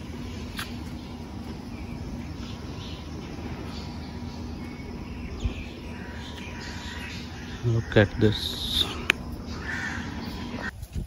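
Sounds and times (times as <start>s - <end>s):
birds chirping: 0.0s - 10.7s
steady low rumble: 0.0s - 11.0s.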